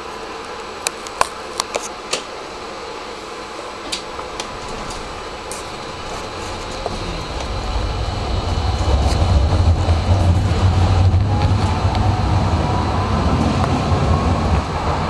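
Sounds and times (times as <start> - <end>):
tram interior hum: 0.0 - 15.0.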